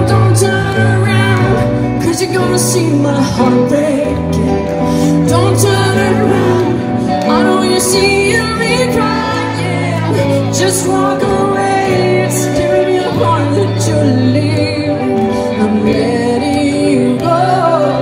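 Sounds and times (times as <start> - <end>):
electric guitar: 0.0 - 18.0
female singer: 0.0 - 18.0.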